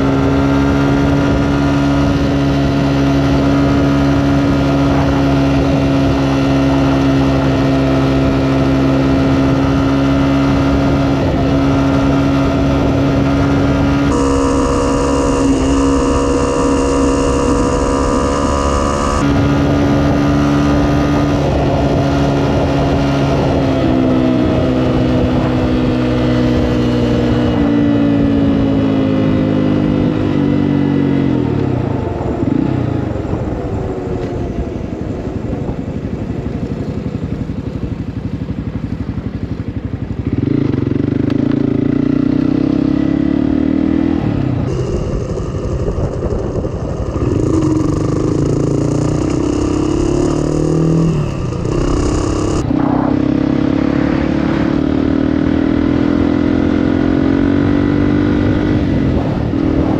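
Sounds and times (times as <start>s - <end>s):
motorcycle engine revving: 0.0s - 33.6s, 34.3s - 59.9s.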